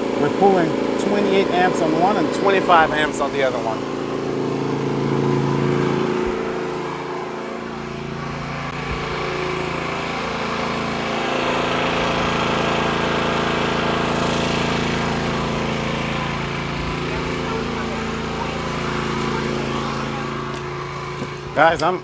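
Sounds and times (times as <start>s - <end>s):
generator engine under heavy load: 0.0s - 22.0s.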